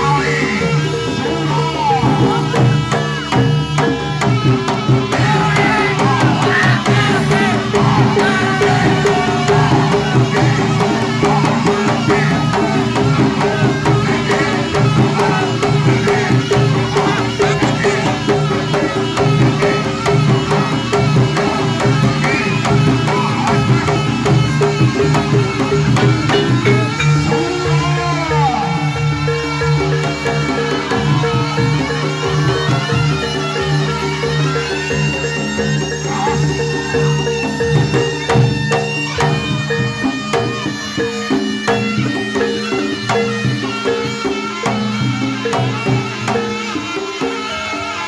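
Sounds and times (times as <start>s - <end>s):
reedy wind instrument melody: 0.0s - 48.0s
ringing gongs: 0.0s - 48.0s
fast hand drumming: 1.0s - 47.4s.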